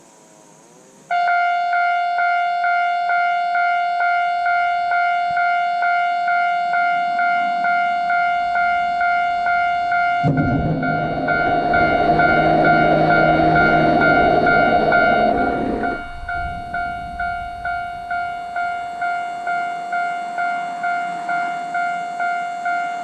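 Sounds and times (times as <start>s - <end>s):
electric train rumble: 0.0s - 23.0s.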